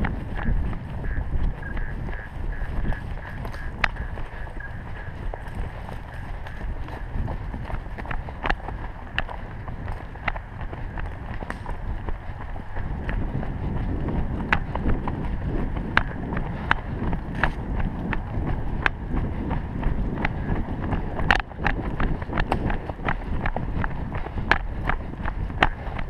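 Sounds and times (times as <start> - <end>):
running footsteps on dirt: 0.0 - 26.0
wind buffeting microphone: 0.0 - 26.0.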